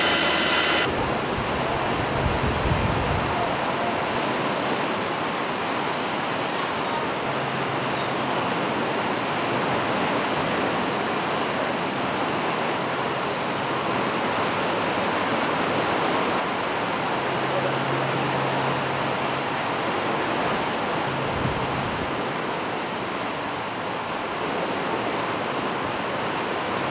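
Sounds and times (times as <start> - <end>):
wind: 0.0 - 26.9.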